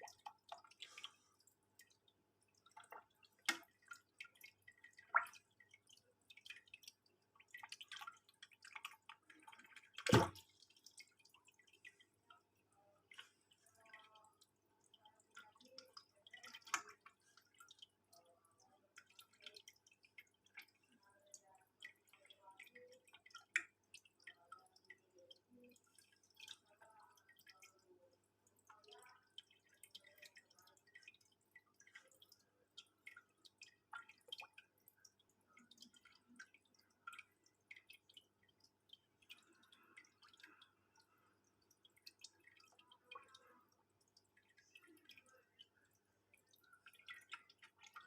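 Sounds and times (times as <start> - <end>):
water drips and splashes: 0.0 - 48.0
water plops: 0.0 - 48.0.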